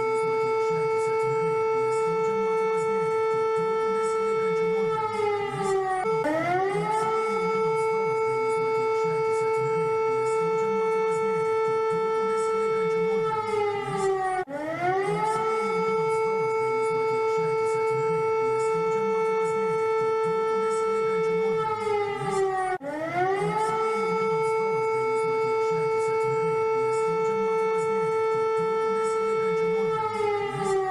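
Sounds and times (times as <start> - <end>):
warning siren steady tone: 0.0 - 30.9.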